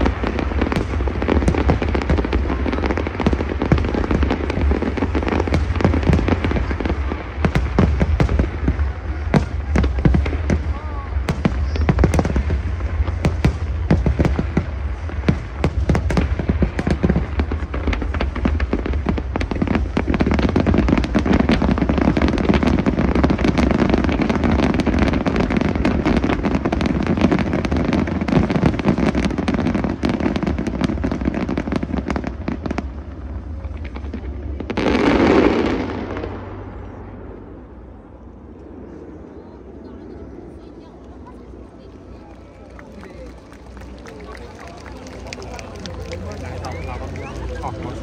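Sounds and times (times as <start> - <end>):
fireworks bursting with bangs: 0.0 - 37.6, 38.6 - 48.0
broad noise: 0.0 - 48.0
fireworks crackles: 0.0 - 48.0.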